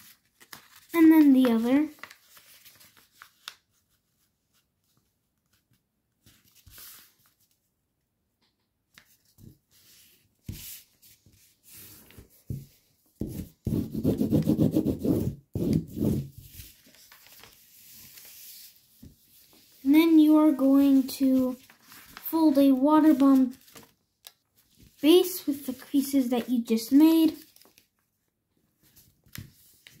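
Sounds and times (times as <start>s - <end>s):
paper rustling and rubbing: 0.0s - 7.6s, 9.0s - 27.8s.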